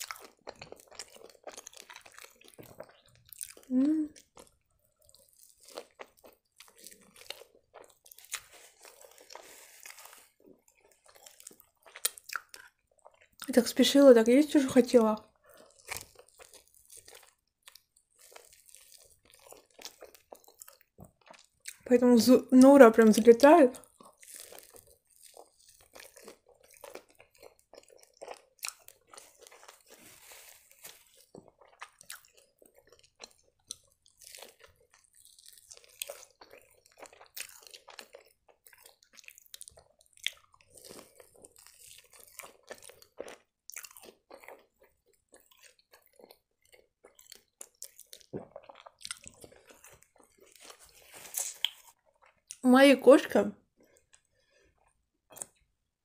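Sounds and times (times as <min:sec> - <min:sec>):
chewing crunchy food: 0:00.0 - 0:52.6, 0:53.6 - 0:55.8.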